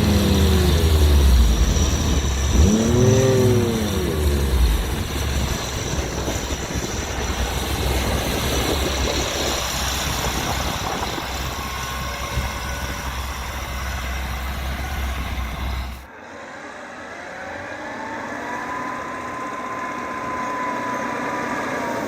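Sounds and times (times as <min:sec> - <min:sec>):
constant rushing noise: 0:00.0 - 0:22.0
tractor diesel engine drone: 0:00.0 - 0:22.0.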